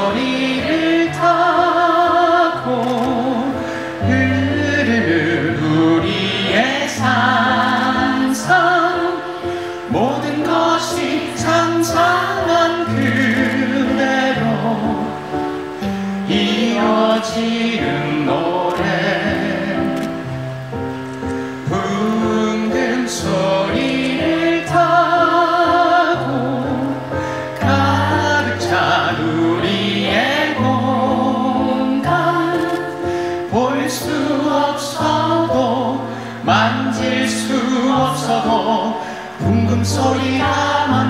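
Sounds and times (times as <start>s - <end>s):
group singing with vibrato: 0.0s - 20.8s, 21.4s - 41.0s.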